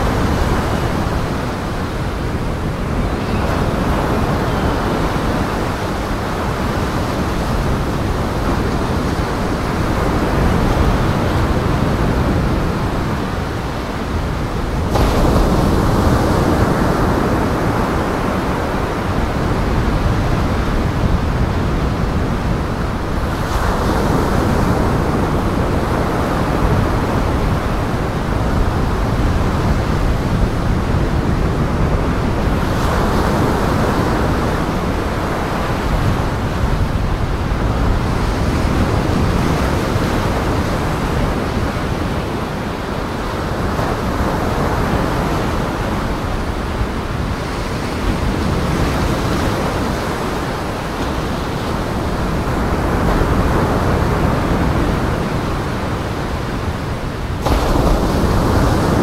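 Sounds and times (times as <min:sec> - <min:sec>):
waves breaking: 0:00.0 - 0:59.0
wind noise: 0:00.0 - 0:59.0.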